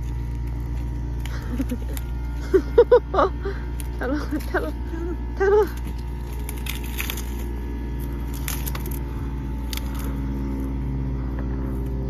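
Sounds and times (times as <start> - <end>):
dry grass stalks rustling: 0.0 - 12.0
low engine-like hum: 0.0 - 12.0.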